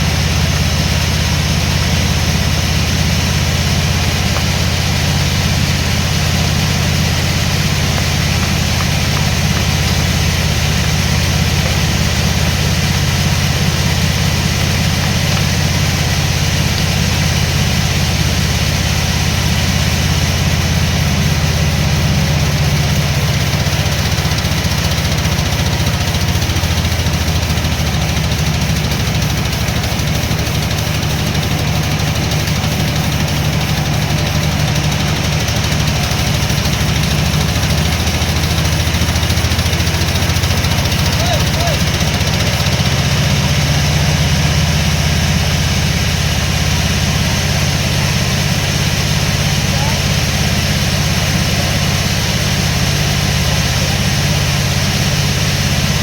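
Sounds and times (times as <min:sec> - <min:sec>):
large engine running: 0:00.0 - 0:56.0.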